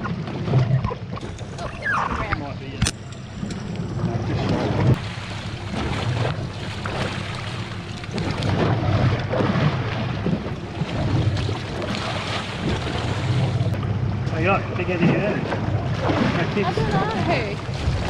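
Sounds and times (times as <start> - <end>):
choppy sea washing: 0.0 - 18.0.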